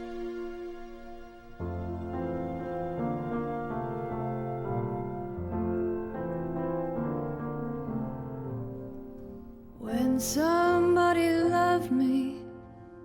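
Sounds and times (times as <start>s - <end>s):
slow solo piano music: 1.6s - 13.0s.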